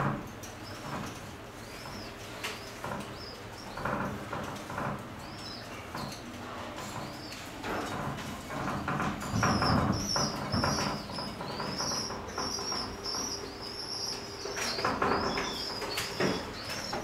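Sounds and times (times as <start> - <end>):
small birds chirping: 0.4 - 17.0.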